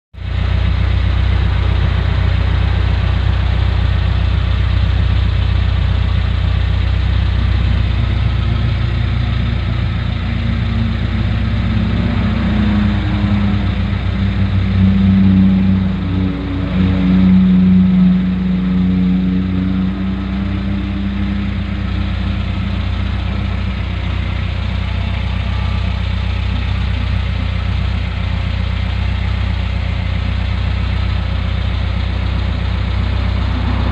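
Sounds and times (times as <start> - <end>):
engine idling and revving: 0.1 - 33.9.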